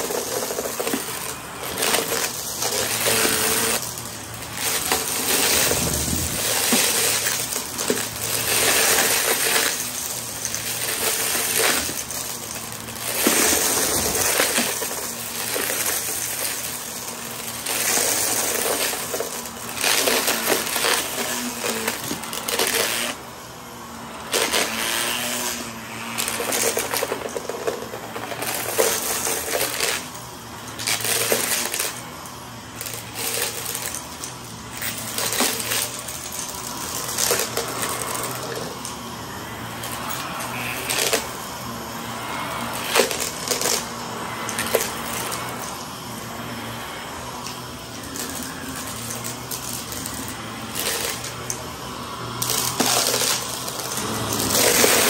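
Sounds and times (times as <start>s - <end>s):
debris crunching in vacuum: 0.0s - 55.0s
vacuum cleaner on rug: 0.0s - 55.0s.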